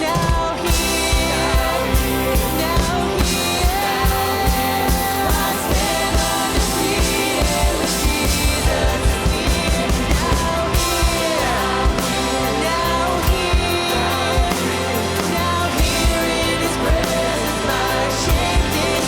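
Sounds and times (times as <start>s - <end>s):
person singing melody: 0.0s - 19.0s
worship band playing: 0.0s - 19.0s.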